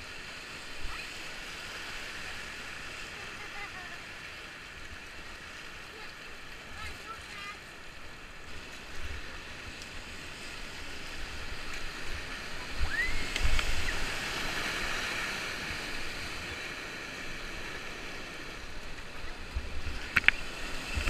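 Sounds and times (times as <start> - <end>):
whitewater rushing: 0.0 - 21.0.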